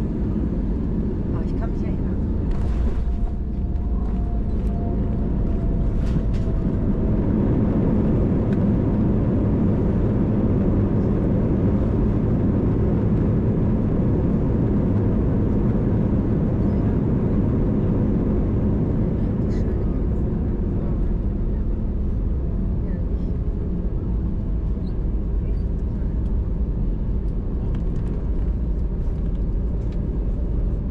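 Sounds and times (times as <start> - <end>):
aircraft engines and wheels rumbling: 0.0 - 30.9.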